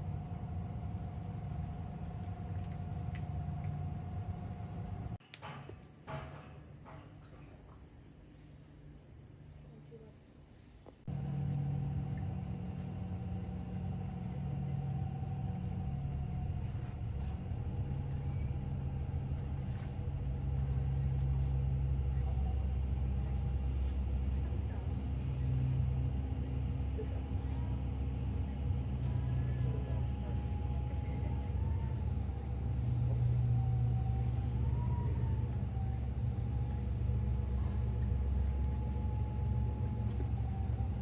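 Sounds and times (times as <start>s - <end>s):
low machine hum: 0.0s - 10.4s, 11.0s - 41.0s
insects trilling: 0.0s - 41.0s.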